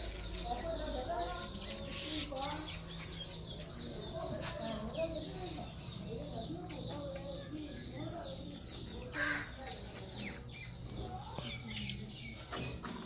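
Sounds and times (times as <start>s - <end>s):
faint murmured voices: 0.0s - 13.0s
small birds chirping: 0.0s - 13.0s.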